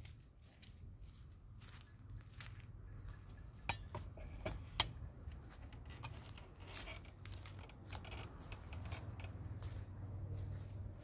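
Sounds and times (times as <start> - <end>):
footsteps through dry leaves: 0.0 - 3.6, 5.2 - 11.0.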